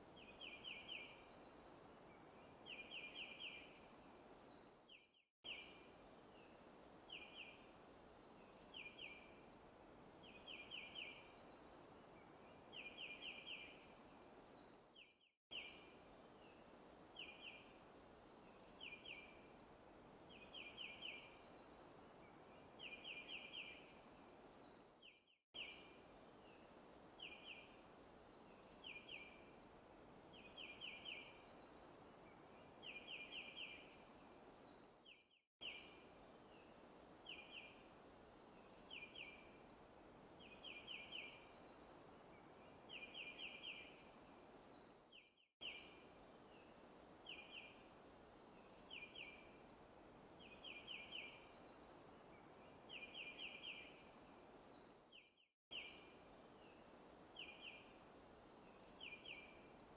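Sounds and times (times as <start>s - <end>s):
soft steady hiss: 0.0s - 59.9s.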